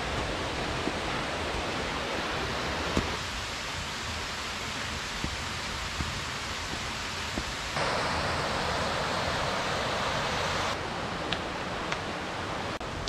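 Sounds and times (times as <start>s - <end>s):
stream and waterfalls rushing: 0.0s - 13.0s.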